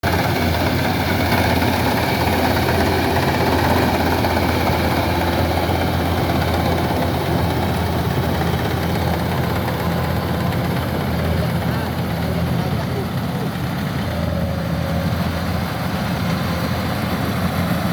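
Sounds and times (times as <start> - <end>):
harvester engine droning: 0.0 - 17.9.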